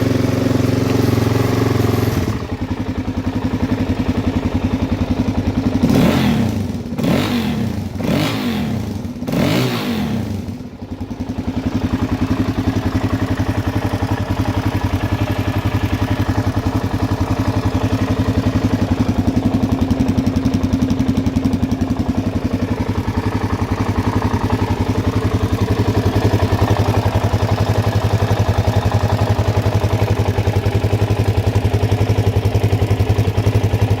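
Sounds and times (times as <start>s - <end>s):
motorcycle engine blipping and idling: 0.0s - 34.0s.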